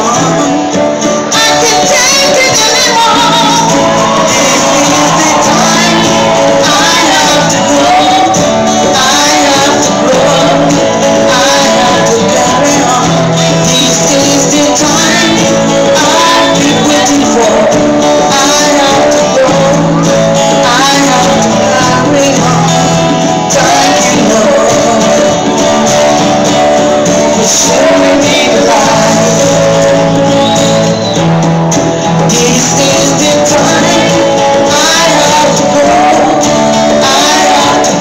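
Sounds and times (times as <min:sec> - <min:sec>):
live band playing: 0:00.0 - 0:38.0
person singing: 0:00.0 - 0:38.0.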